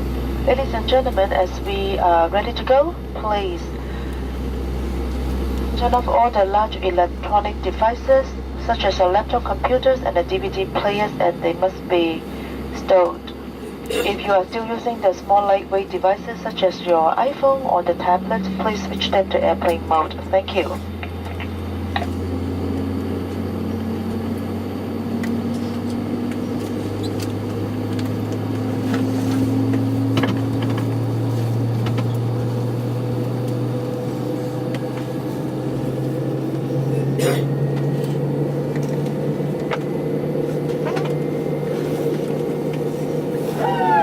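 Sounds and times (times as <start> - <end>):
airplane cabin drone: 0.0 - 44.0.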